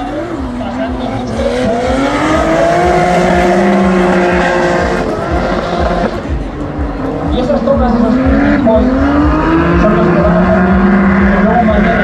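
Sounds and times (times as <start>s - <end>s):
car engines revving high: 0.0s - 12.0s.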